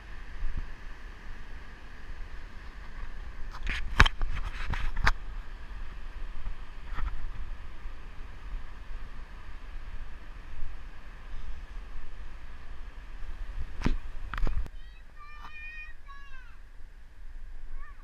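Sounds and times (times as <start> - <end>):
steady outdoor rush: 0.0 - 18.0
wind rumbling on microphone: 0.0 - 18.0.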